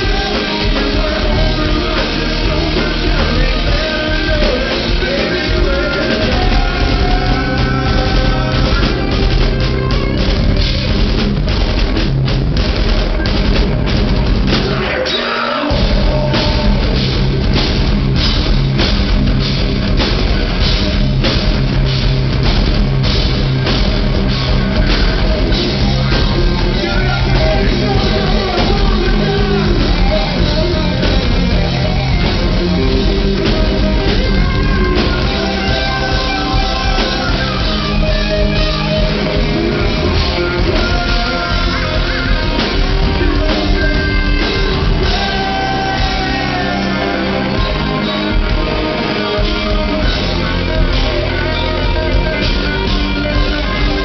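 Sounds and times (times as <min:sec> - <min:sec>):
bass guitar: 0:00.0 - 0:54.0
drum kit: 0:00.0 - 0:54.0
guitars: 0:00.0 - 0:54.0.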